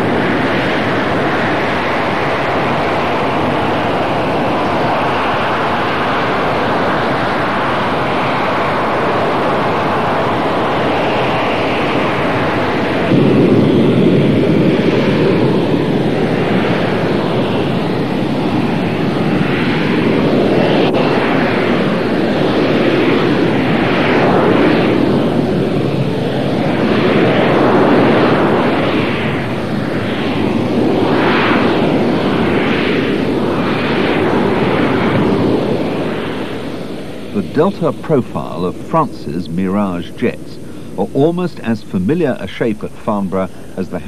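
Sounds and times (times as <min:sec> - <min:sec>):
jet engine roaring while hovering: 0:00.0 - 0:44.0.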